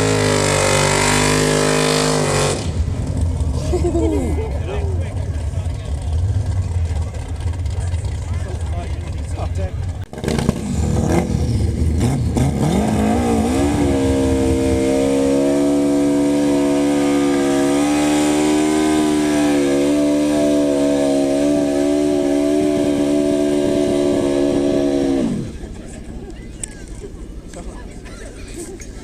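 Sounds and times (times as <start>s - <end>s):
racing engine revving: 0.0s - 3.7s, 5.0s - 26.0s.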